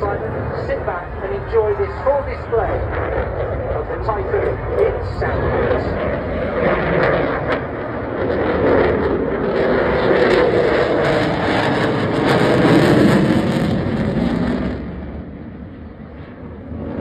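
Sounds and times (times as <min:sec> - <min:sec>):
fighter jet engines roaring: 0:00.0 - 0:17.0.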